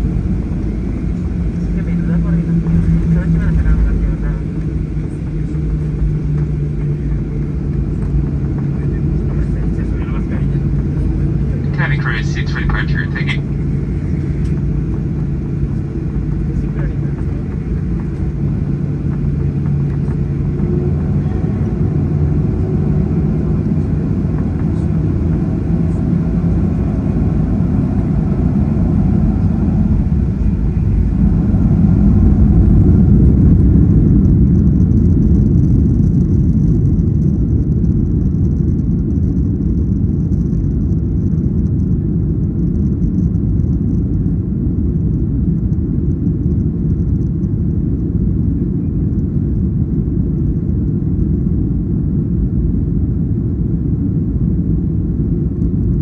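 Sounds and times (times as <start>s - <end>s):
jet engines spooling up: 0.0s - 52.2s.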